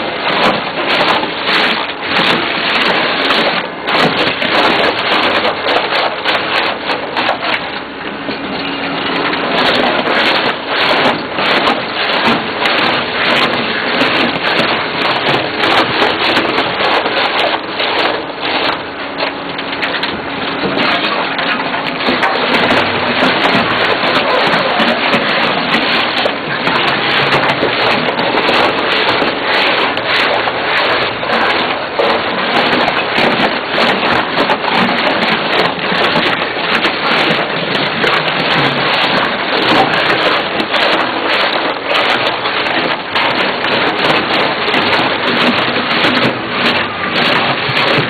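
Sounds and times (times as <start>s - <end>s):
tire shredder grinding rubber: 0.0s - 48.0s.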